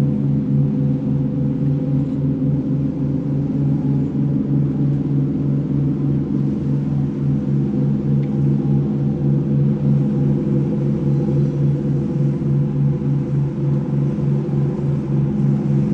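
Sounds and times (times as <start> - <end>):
boat engine running: 0.0 - 15.9.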